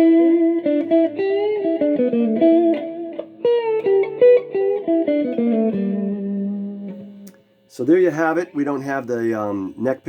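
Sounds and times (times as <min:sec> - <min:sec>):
electric guitar notes: 0:00.0 - 0:10.0.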